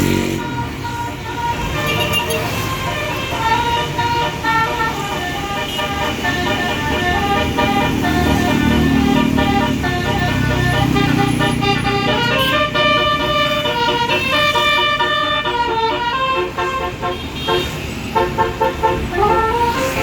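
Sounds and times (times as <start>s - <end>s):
bus horn playing a melody: 0.0s - 20.0s.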